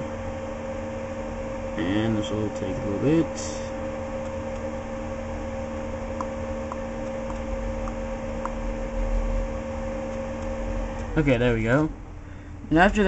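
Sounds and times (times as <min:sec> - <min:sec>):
dvd drive whirring hum: 0:00.0 - 0:13.0.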